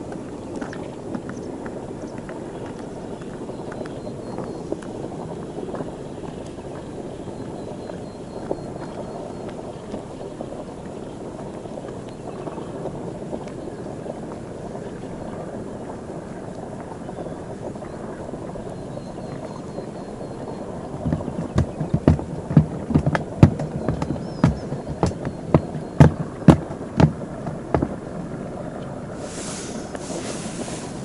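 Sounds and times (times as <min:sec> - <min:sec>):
wind noise on microphone: 0:00.0 - 0:31.0.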